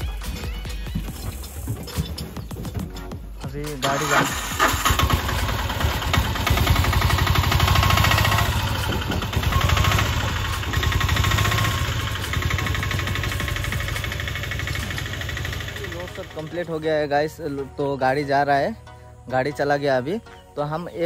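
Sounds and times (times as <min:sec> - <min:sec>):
small truck engine clattering: 0:00.0 - 0:16.9.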